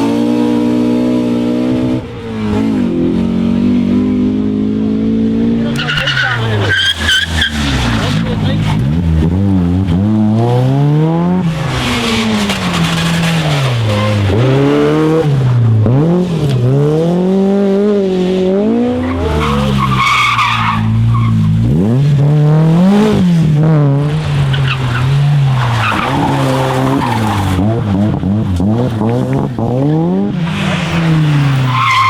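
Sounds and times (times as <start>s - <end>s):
rally car engine at high revs: 0.0s - 32.0s
tyres skidding: 0.0s - 32.0s.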